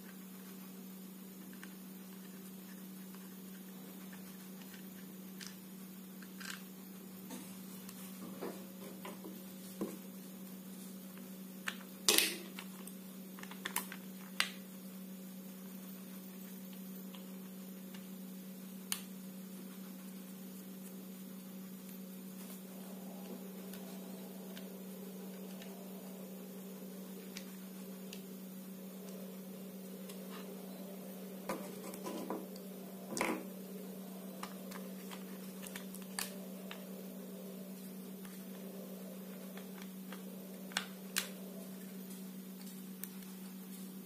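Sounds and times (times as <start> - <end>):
low hum: 0.1 - 44.0.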